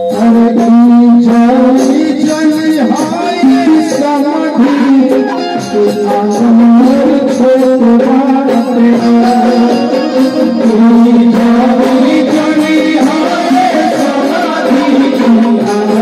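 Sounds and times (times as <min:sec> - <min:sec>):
harmonium playing held notes: 0:00.0 - 0:16.0
man singing: 0:00.0 - 0:16.0
percussion beat: 0:00.0 - 0:16.0.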